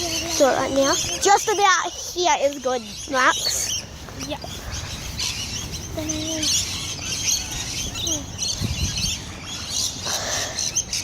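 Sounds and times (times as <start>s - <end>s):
flock of small birds chirping: 0.0s - 11.0s.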